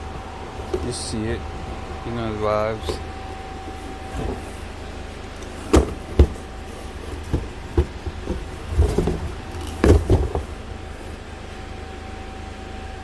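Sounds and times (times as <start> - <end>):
steady hum: 0.0 - 13.0
objects knocking and thumping: 0.5 - 11.2.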